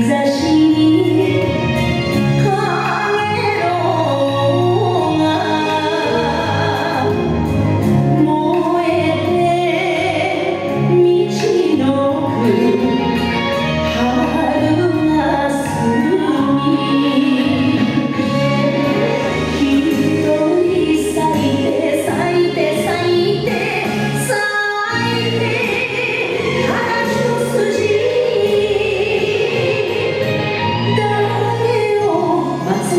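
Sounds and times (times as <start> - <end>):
instrumental accompaniment: 0.0 - 32.9.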